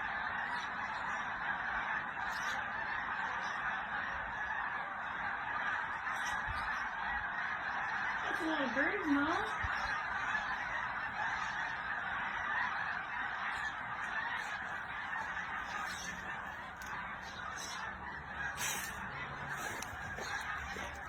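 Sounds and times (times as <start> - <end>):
flock of birds calling: 0.0 - 21.0.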